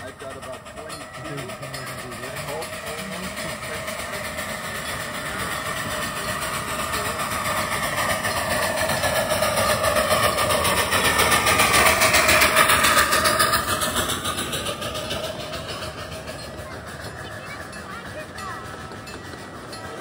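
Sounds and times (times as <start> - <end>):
miniature train passing by: 0.0 - 20.0.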